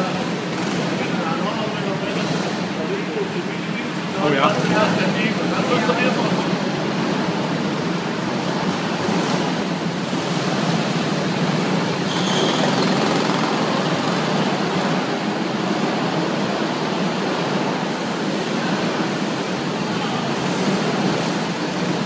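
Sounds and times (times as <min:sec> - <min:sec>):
go-kart engines droning: 0:00.0 - 0:22.0.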